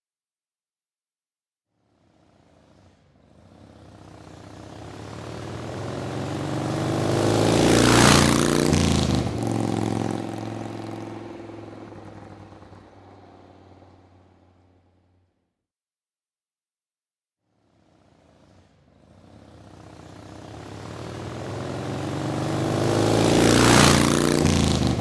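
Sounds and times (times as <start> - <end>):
motorcycle driving past: 1.8 - 15.3, 17.6 - 25.0.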